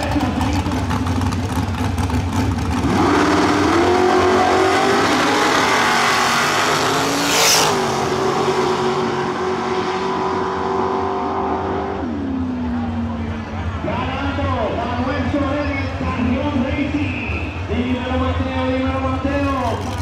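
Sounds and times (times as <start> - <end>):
drag racing cars launching: 0.0 - 20.0.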